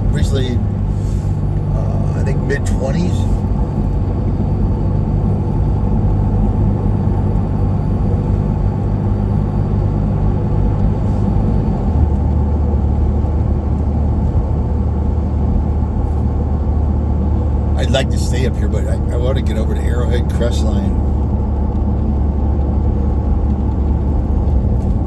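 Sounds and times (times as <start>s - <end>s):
truck road and engine drone: 0.0s - 25.0s.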